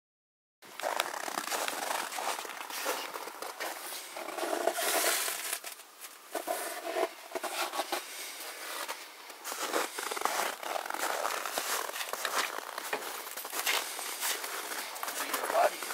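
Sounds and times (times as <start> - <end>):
footsteps crunching in snow: 0.7 - 15.9.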